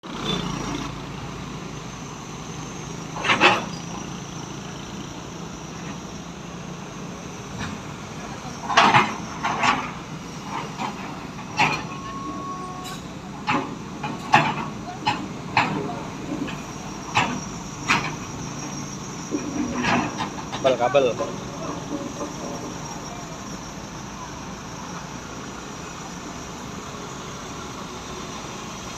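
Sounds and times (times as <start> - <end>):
heavy vehicle engine idling: 0.0 - 28.9.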